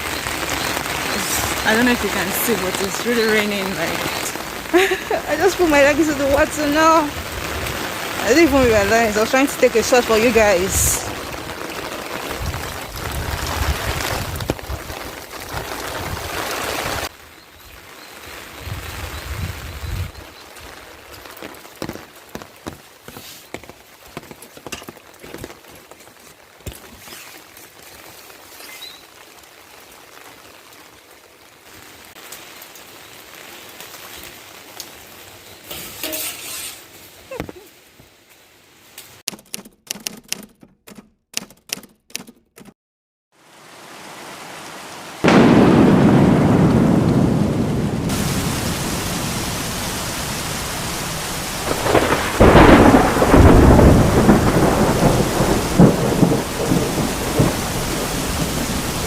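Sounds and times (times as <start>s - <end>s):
heavy rain with running water: 0.0s - 39.2s, 43.3s - 59.0s.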